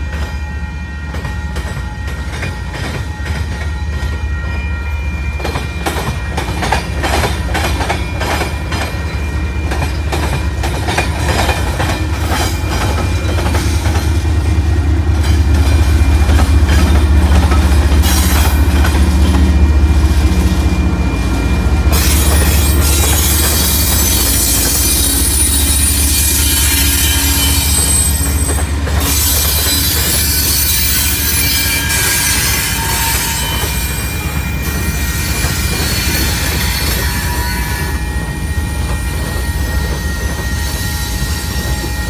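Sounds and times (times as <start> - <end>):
diesel locomotive rumbling: 0.0 - 42.0.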